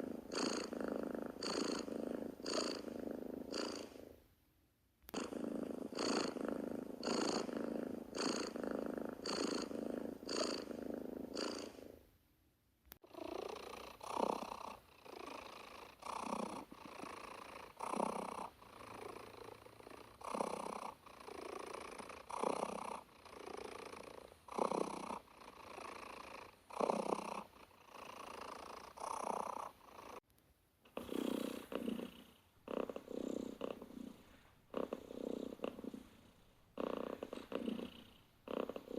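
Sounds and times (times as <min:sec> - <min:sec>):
cat purring: 0:00.0 - 0:04.3, 0:05.0 - 0:12.1, 0:12.9 - 0:38.9.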